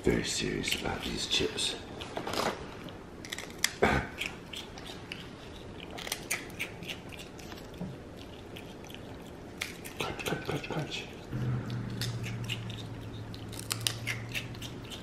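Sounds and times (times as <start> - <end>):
monkey crunching a chip: 0.4 - 15.0.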